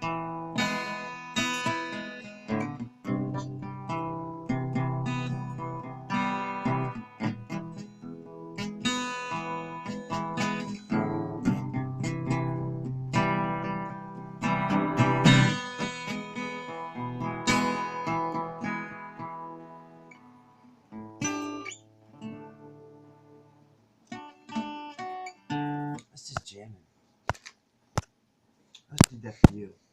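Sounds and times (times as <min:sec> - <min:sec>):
plucked guitar notes: 0:00.0 - 0:26.0
acoustic guitar strumming: 0:00.0 - 0:26.1.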